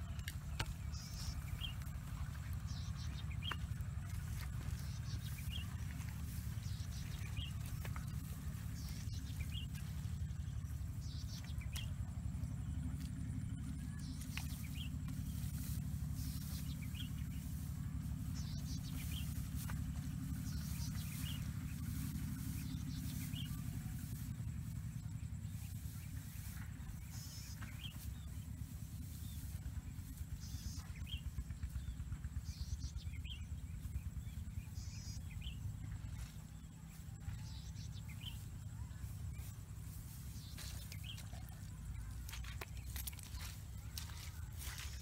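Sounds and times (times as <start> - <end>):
steady low rumble: 0.0 - 45.0.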